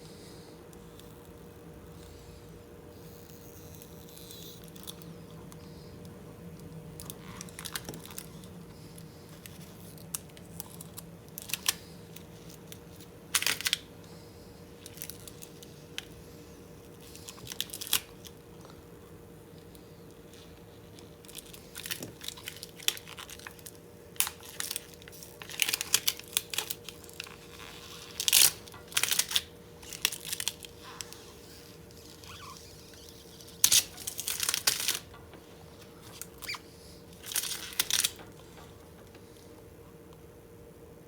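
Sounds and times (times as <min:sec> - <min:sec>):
plastic film peeling and crackling: 0:02.9 - 0:05.9, 0:06.5 - 0:13.9, 0:14.7 - 0:18.9, 0:19.6 - 0:38.6.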